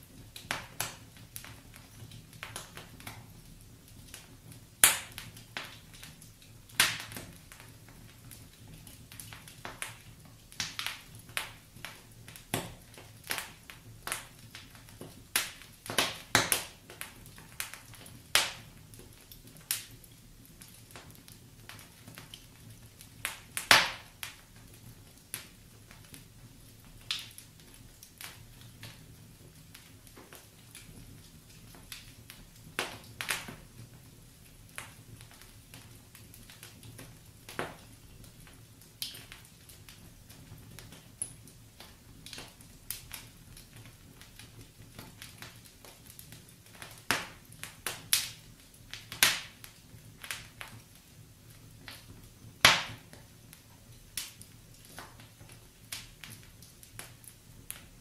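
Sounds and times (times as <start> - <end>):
logs crackling and popping: 0.0 - 58.0
low rumble of flames: 0.0 - 58.0.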